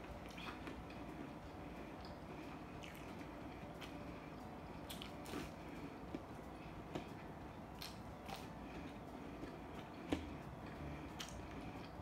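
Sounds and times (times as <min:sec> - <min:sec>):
low room hum: 0:00.0 - 0:12.0
person chewing fried food: 0:00.0 - 0:12.0.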